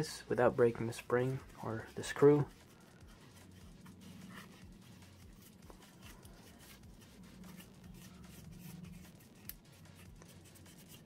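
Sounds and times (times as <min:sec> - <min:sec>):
cloth rubbing and rustling: 0:00.2 - 0:11.0.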